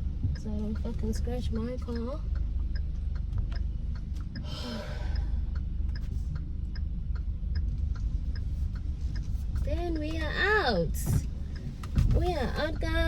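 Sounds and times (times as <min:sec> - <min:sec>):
engine and road rumble: 0:00.0 - 0:13.0
turn signal ticking: 0:00.0 - 0:13.0.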